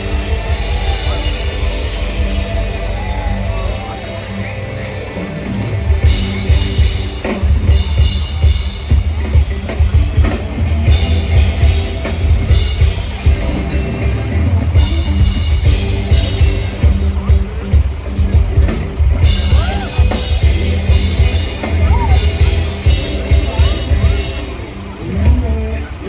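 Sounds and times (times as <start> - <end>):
drum kit and bass beat: 0.0 - 26.0
live rock band: 0.0 - 26.0.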